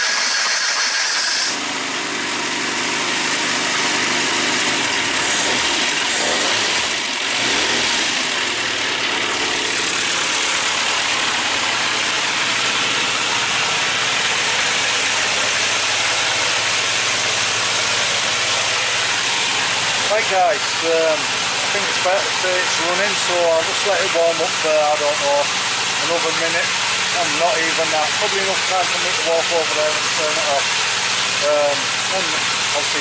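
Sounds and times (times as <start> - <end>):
car engine starting and idling: 0.0 - 33.0.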